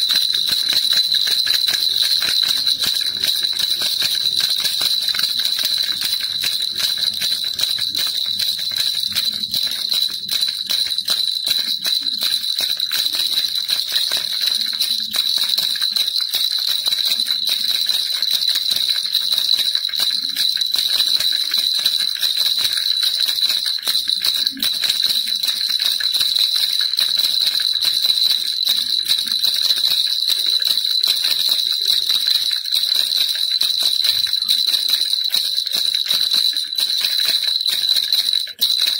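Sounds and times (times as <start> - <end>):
baby rattle jingling: 0.0 - 38.9.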